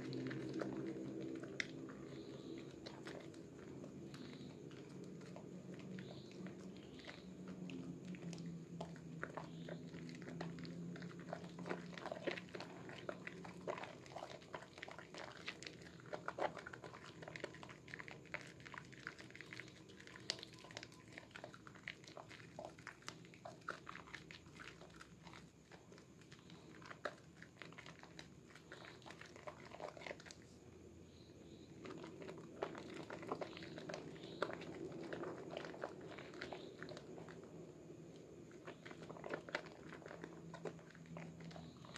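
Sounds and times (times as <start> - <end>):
foam bubbles popping: 0.0 - 30.3, 31.7 - 41.9
soap lather squelching: 0.0 - 30.6, 31.7 - 41.9.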